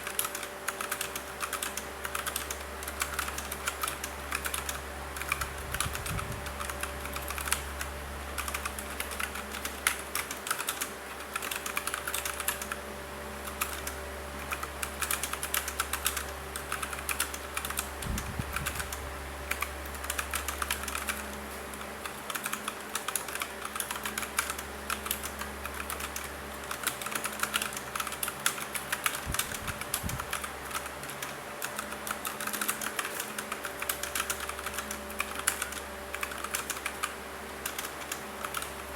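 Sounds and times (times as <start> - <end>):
mechanical keyboard typing: 0.0 - 12.8, 13.4 - 38.9.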